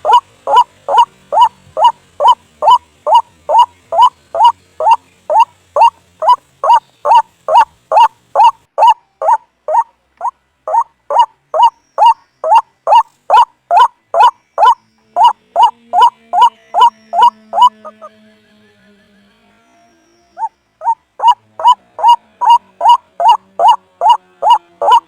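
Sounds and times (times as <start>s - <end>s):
bird calling in rising notes: 0.0s - 9.9s, 10.7s - 18.1s, 20.3s - 25.0s.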